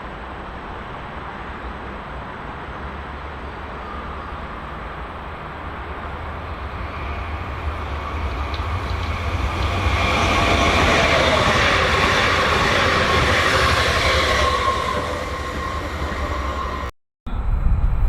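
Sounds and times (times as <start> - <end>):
train wheels rumbling on rails: 0.2 - 18.0.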